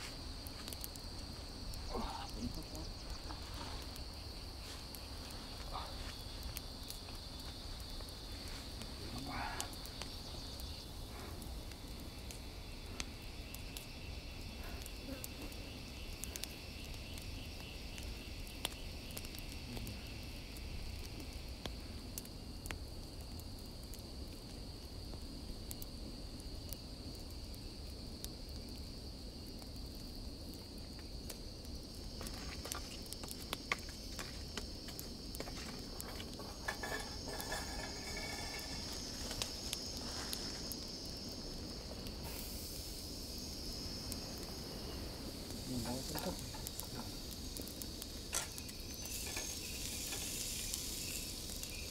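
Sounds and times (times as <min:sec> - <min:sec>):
campfire crackling and popping: 0:00.0 - 0:51.9
insects droning: 0:00.0 - 0:51.9.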